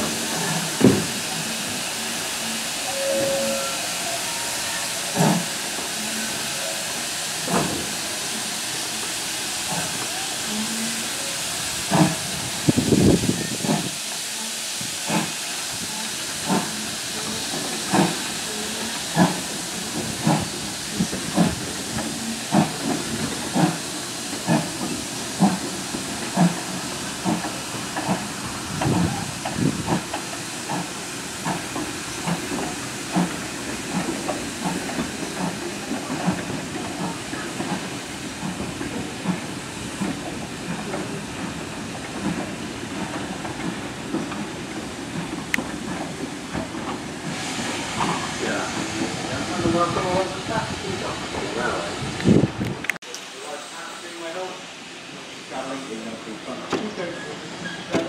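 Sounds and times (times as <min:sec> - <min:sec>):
steam locomotive exhaust beats: 0:00.0 - 0:52.8
steam hissing: 0:00.0 - 0:58.0.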